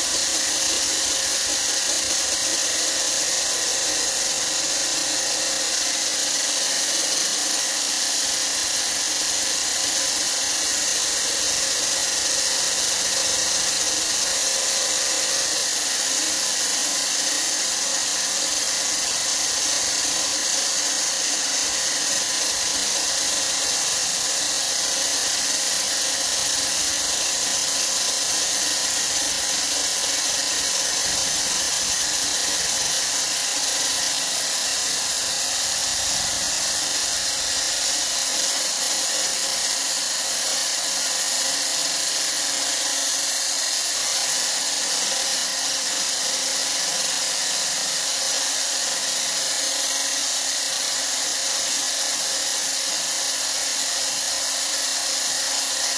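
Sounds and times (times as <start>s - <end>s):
kitchen appliance motor whine: 0.0s - 55.9s.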